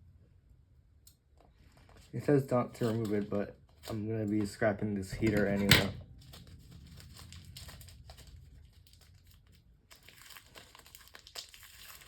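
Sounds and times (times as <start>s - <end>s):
label tag crinkling and tearing: 1.6s - 12.0s.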